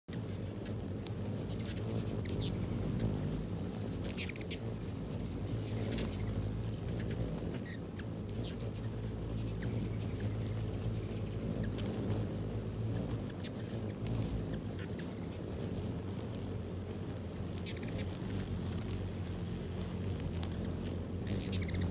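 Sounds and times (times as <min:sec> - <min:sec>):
hummingbird wingbeat hum: 0:00.1 - 0:21.9
hummingbird chip notes: 0:00.6 - 0:21.9.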